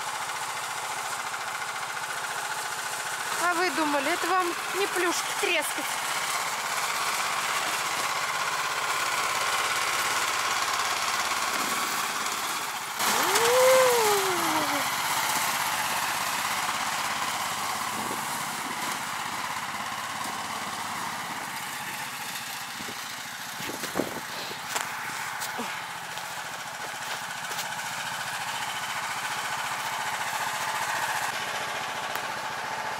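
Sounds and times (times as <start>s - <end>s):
small petrol engine running: 0.0s - 32.9s.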